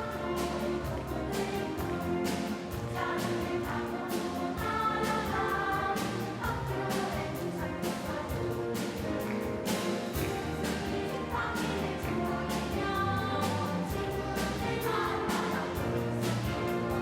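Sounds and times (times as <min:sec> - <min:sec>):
children's choir singing: 0:00.0 - 0:17.0
orchestra: 0:00.0 - 0:17.0.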